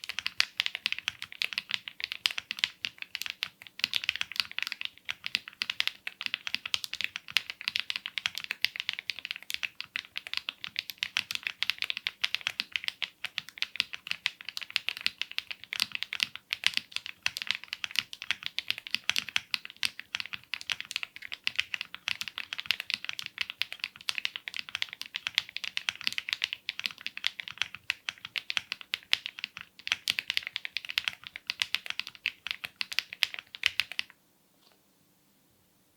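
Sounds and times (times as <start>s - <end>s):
fast typing on mechanical keyboard: 0.0s - 34.1s.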